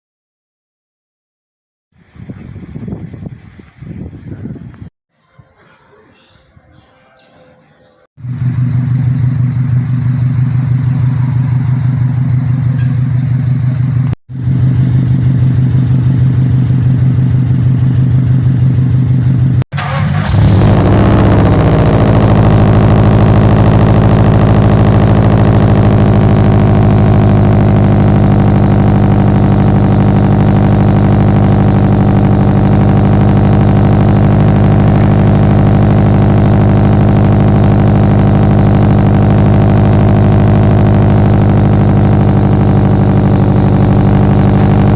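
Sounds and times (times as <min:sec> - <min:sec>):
car engine idling: 0:08.2 - 0:44.9.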